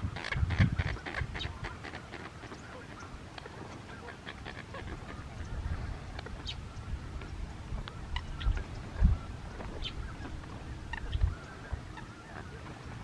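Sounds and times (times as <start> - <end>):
honking and quacking bird calls: 0.0 - 13.0.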